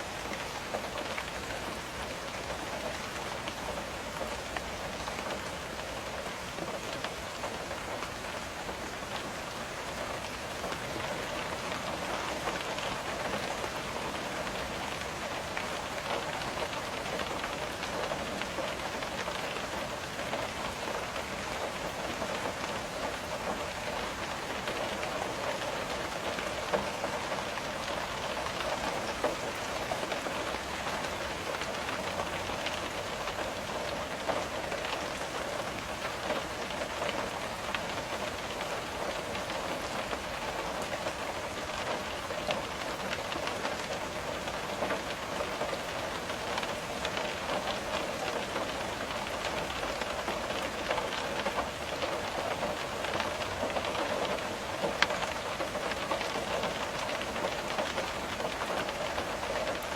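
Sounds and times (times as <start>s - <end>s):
rain drops tapping on window glass: 0.0s - 59.9s.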